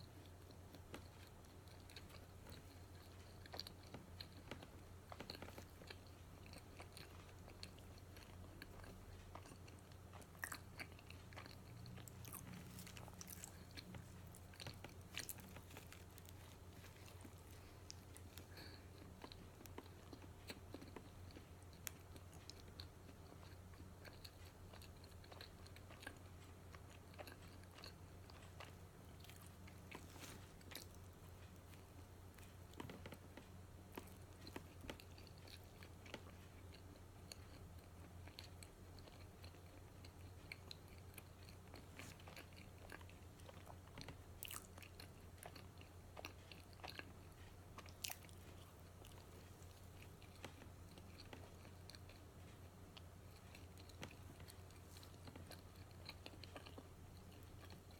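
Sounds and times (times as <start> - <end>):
chewing and crunching: 0.0 - 57.9
steady low hum: 0.0 - 57.9.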